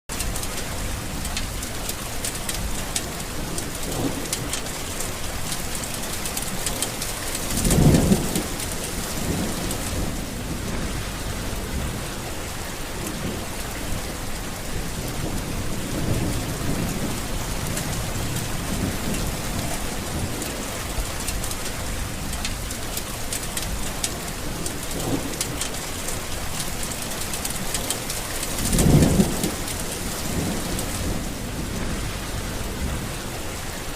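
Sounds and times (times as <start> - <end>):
steady rain: 0.1 - 33.9
thunder rumbling: 0.1 - 33.9.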